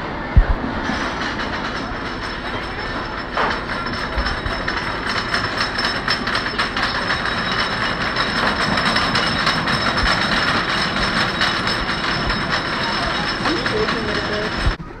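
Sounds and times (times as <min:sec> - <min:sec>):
roller coaster clattering on track: 0:00.0 - 0:15.0.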